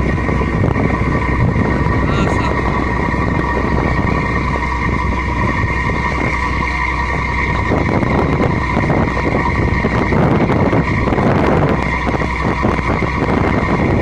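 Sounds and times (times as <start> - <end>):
engine running with whine: 0.0 - 14.0.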